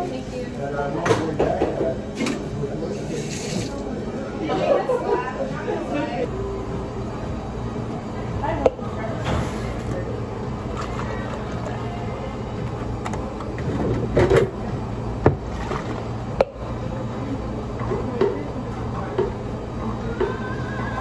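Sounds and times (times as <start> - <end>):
low hum of equipment: 0.0 - 21.0.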